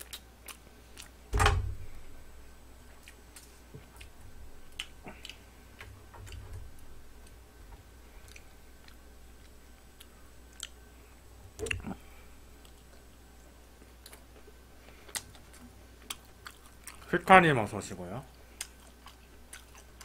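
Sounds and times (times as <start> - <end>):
quiet chewing: 0.0 - 1.2, 1.8 - 17.3, 18.2 - 20.0.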